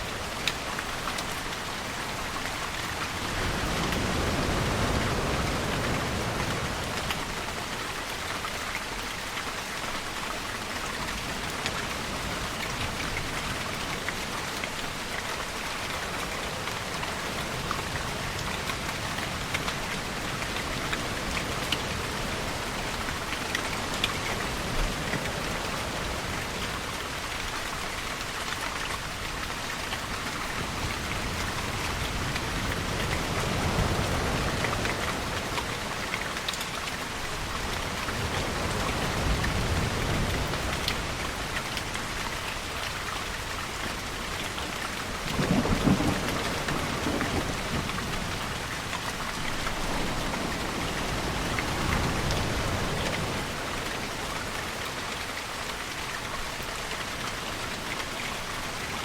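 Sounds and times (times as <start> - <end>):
raindrops pattering close by: 0.0 - 59.0
steady rainfall: 0.0 - 59.0.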